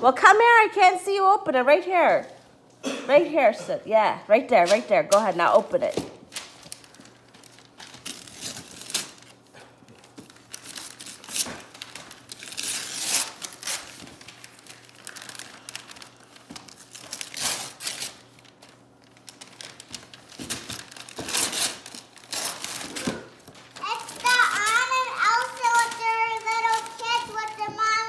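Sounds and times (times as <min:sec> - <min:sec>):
wrapping paper tearing: 0:04.6 - 0:28.0.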